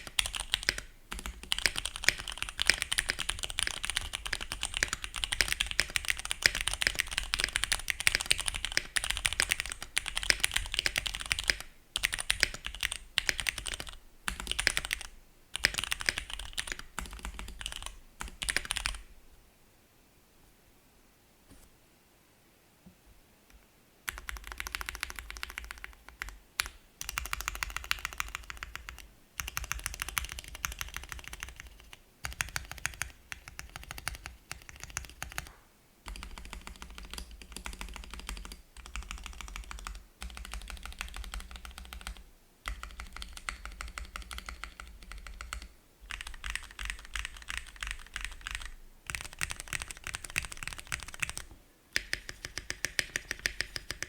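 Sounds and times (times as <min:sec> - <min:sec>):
fast mechanical keyboard typing: 0:00.0 - 0:19.0, 0:24.1 - 0:35.5, 0:36.1 - 0:54.0.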